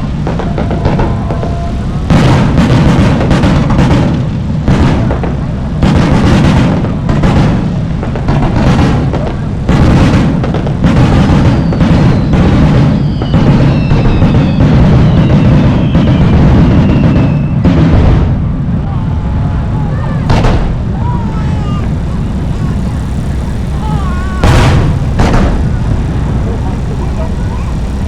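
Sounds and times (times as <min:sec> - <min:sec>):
fireworks booming and crackling: 0:00.0 - 0:28.0
fireworks whistling: 0:00.0 - 0:28.0.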